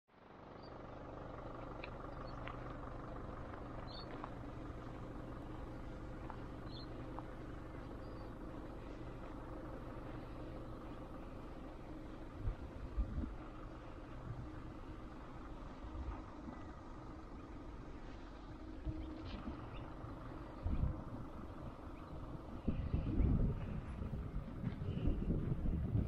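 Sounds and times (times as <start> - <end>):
low mechanical hum: 0.1 - 26.0.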